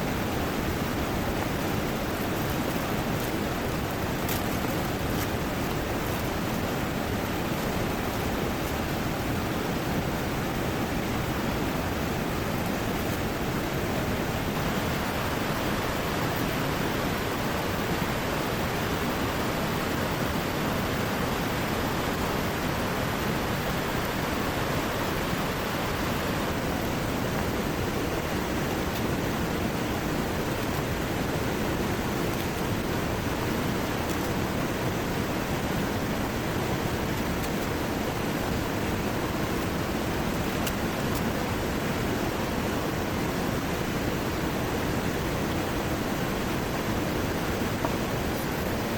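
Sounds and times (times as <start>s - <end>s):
heavy rain pouring: 0.0s - 48.9s
river rushing: 0.0s - 48.9s.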